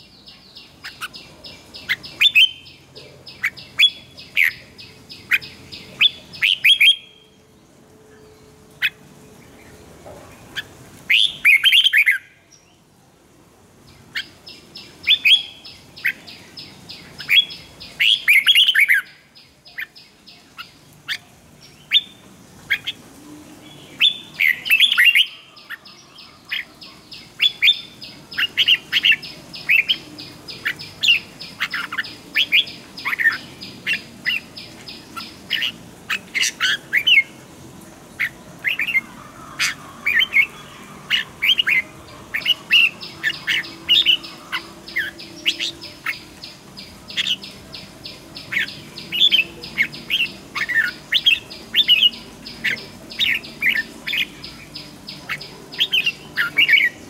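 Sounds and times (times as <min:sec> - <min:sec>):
birds singing warbled phrases: 0:00.0 - 0:09.9, 0:10.5 - 0:12.9, 0:13.8 - 0:57.0.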